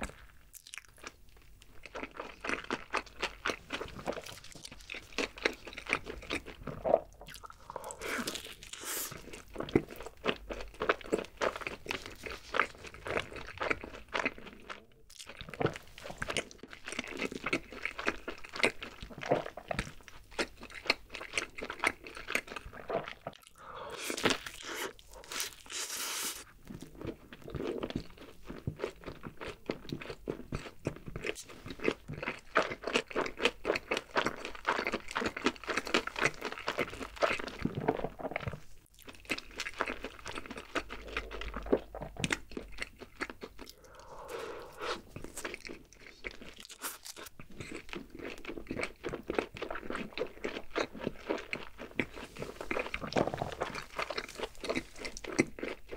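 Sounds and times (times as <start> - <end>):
close chewing with wet mouth clicks: 0.0 - 55.9.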